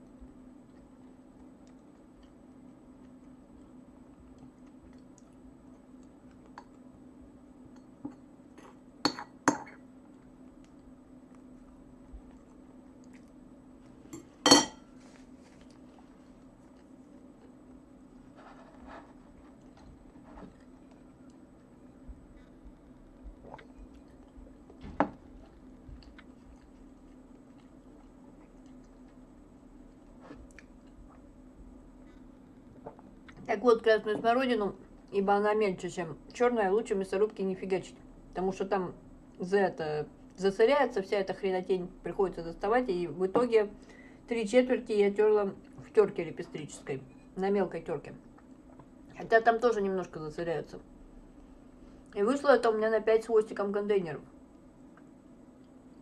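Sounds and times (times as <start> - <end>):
faint low hum: 0.0 - 56.0.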